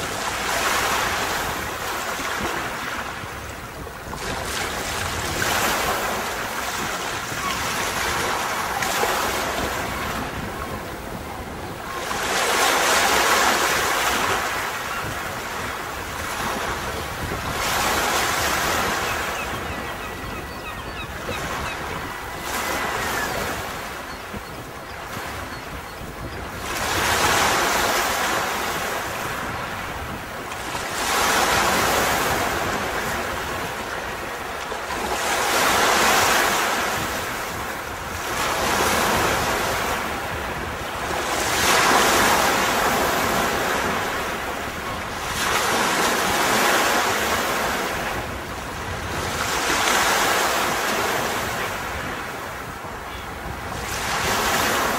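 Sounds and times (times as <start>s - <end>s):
sea waves breaking on beach: 0.0s - 54.9s.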